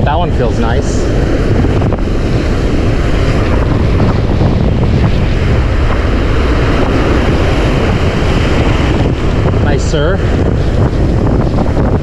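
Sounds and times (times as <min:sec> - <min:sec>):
surf washing up beach: 0:00.0 - 0:12.0
wind buffeting microphone: 0:00.0 - 0:12.0.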